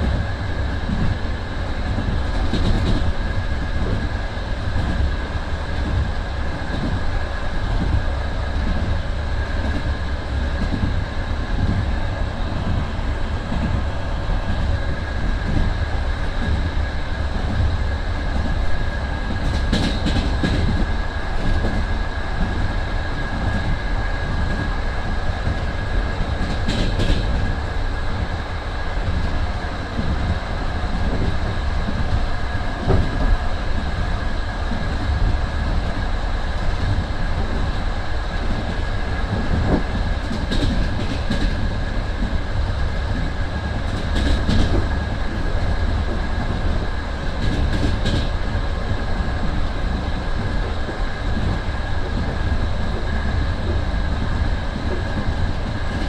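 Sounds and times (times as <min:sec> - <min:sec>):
train carriage rumble: 0:00.0 - 0:56.0.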